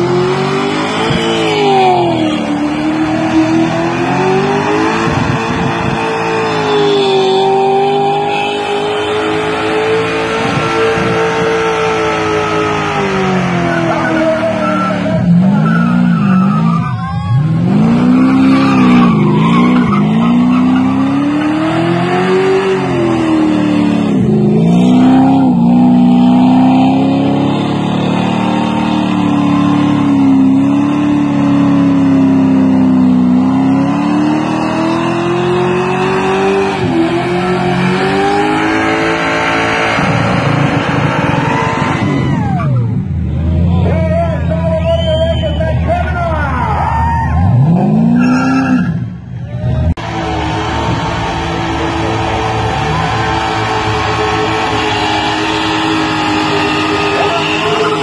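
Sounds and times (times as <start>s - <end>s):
car engine revving hard: 0.0s - 43.8s, 47.4s - 49.2s, 49.9s - 58.0s.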